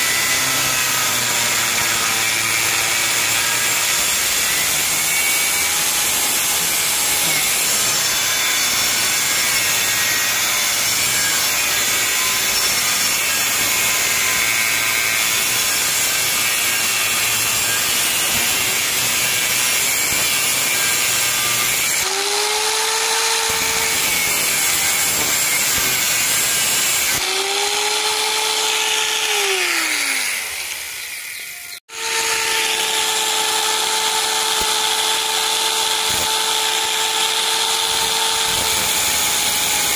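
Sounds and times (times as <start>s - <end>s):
angle grinder cutting steel: 0.0s - 39.9s
angle grinder whining: 0.0s - 39.9s.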